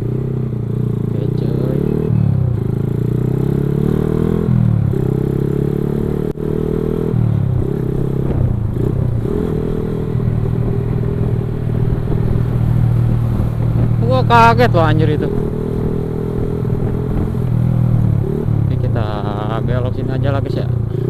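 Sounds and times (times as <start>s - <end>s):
motorcycle engine shifting gears: 0.0s - 21.0s.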